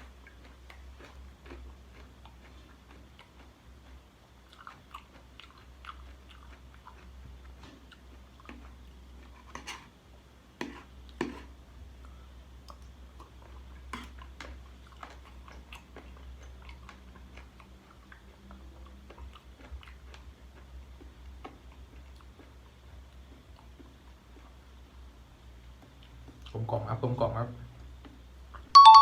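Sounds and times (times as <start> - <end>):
person chewing and crunching: 0.0 - 9.9, 10.6 - 24.8, 25.6 - 26.9.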